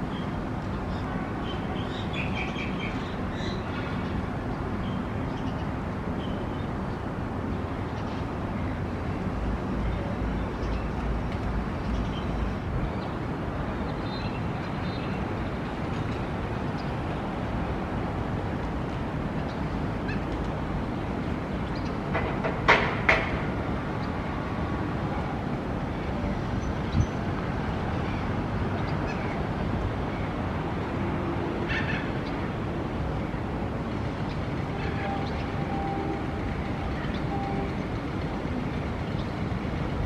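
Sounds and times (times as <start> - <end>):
urban traffic rumble: 0.0 - 40.0.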